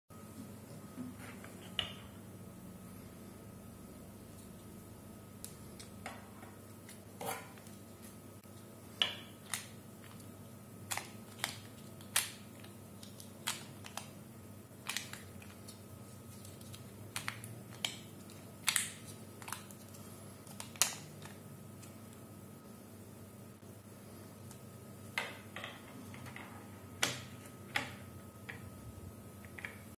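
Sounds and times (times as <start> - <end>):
faint steady hum: 0.1 - 30.0.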